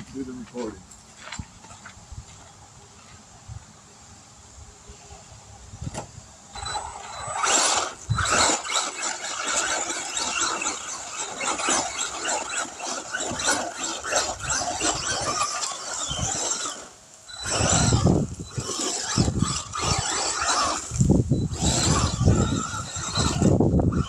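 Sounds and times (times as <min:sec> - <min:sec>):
rc buggy tires scrabbling: 0:00.0 - 0:03.8, 0:04.9 - 0:24.0.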